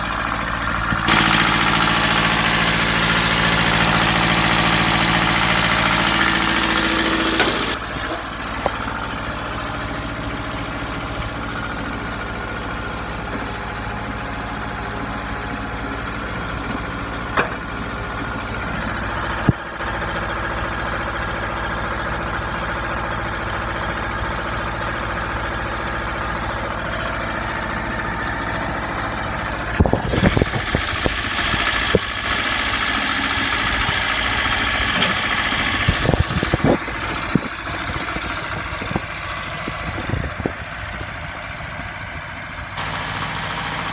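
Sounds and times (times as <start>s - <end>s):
tractor diesel engine idling: 0.0s - 43.9s.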